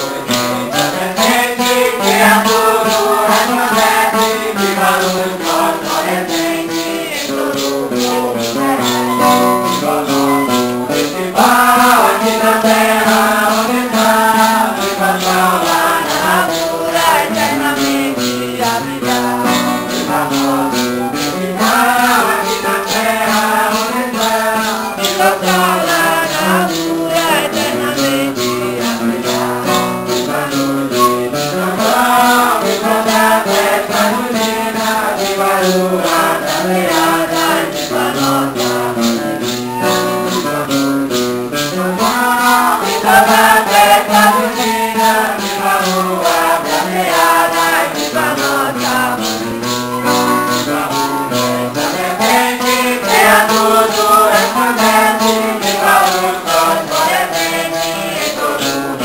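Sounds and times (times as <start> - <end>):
maracas shaken: 0.0 - 59.0
strummed guitar: 0.0 - 59.0
voices singing together: 0.0 - 59.0.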